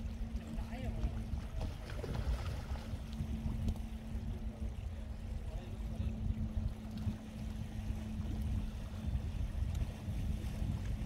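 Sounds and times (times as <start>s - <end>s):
low steady hum: 0.0s - 11.0s
wind buffeting microphone: 0.0s - 11.0s.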